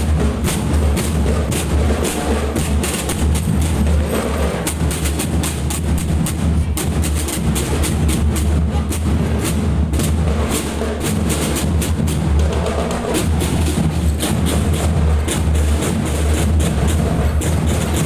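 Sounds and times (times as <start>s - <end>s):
bass drums beating: 0.0s - 18.0s
marching drum band: 0.0s - 18.0s.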